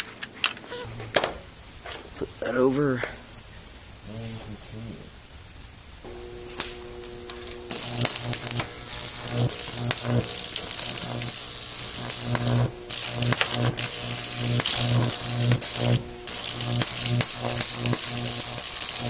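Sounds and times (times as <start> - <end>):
electric arc crackling buzz: 0.6 - 19.0
transformer humming: 0.7 - 19.0.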